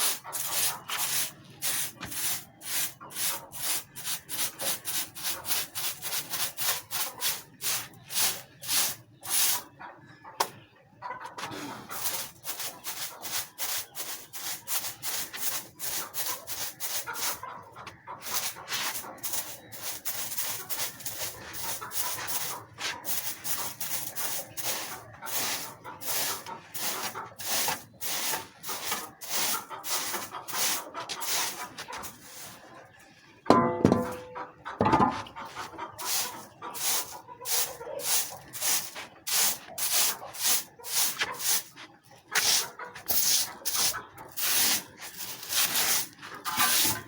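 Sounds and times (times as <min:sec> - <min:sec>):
rough scraping strokes: 0:00.0 - 0:09.6, 0:11.4 - 0:17.4, 0:18.2 - 0:32.8, 0:35.4 - 0:47.0.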